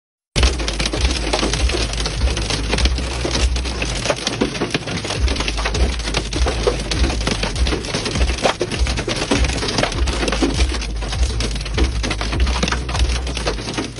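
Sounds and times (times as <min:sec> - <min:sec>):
hail pelting a car roof: 0:00.4 - 0:13.9.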